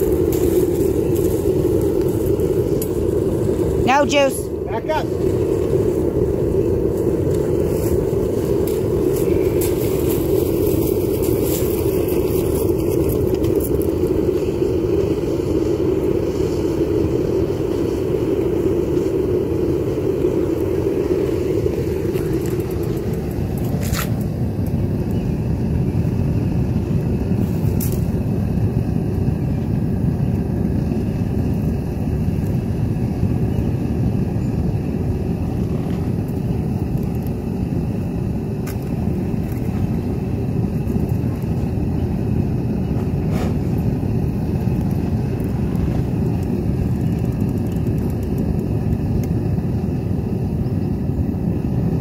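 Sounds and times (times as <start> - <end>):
gas flame rushing: 0.0 - 52.0.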